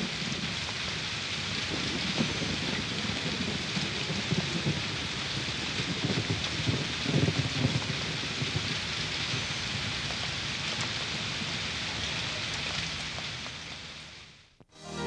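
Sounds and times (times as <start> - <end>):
low rumble of thunder: 0.0 - 14.0
steady rain: 0.0 - 15.0.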